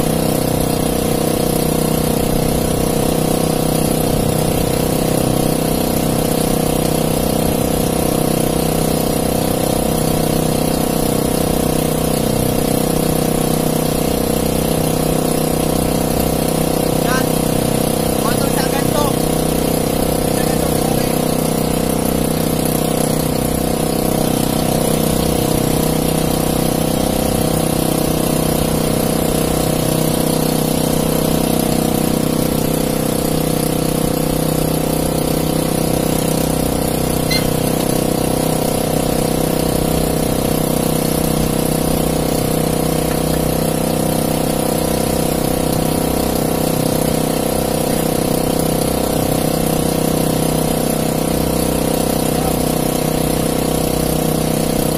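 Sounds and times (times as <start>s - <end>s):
boat engine droning: 0.0s - 54.9s.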